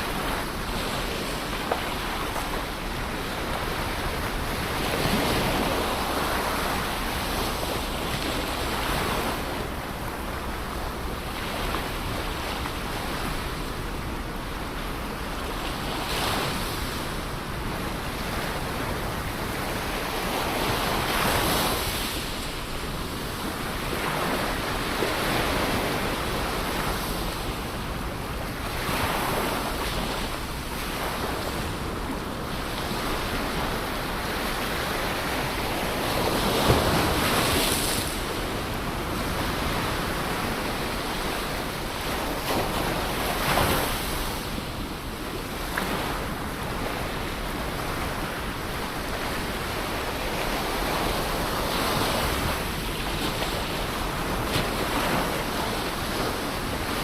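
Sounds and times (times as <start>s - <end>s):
ocean surf breaking on shore: 0.0s - 57.0s.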